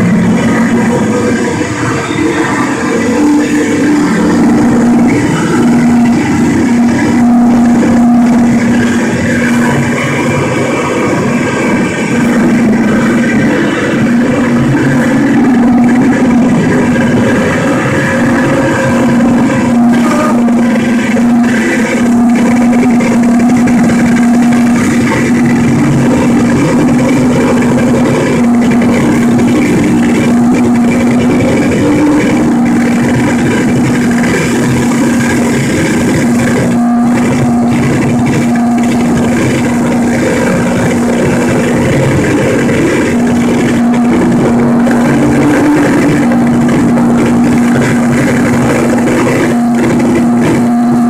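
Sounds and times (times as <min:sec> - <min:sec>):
distorted electronic noise music: 0:00.0 - 0:51.0
low droning tone: 0:00.0 - 0:51.0.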